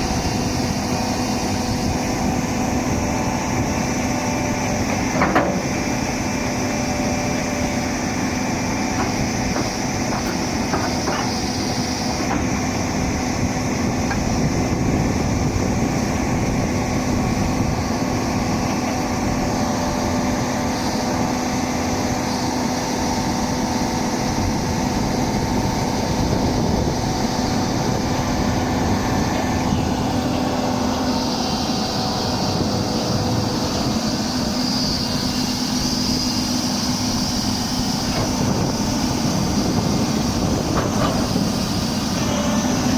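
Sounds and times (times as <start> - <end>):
excavator diesel engine humming: 0.0 - 42.9.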